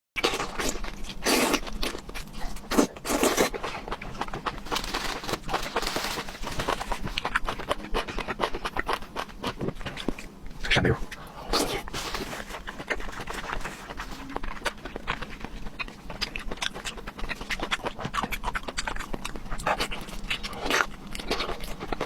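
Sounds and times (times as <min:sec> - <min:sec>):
person chewing food: 0:00.2 - 0:22.0.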